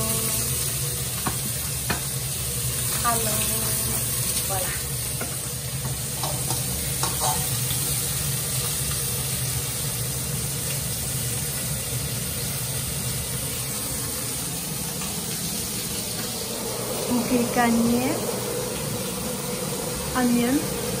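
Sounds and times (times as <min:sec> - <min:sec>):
hot oil sizzling in a pot: 0:00.0 - 0:21.0.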